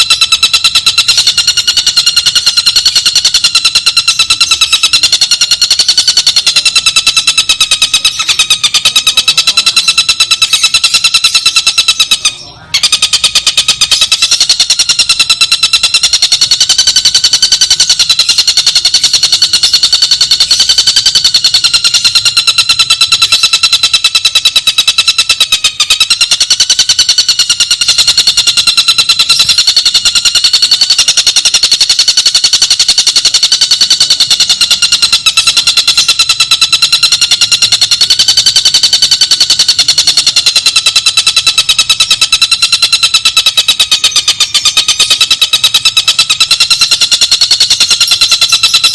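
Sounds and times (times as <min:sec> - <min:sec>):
bird rattling trill: 0:00.0 - 0:48.9.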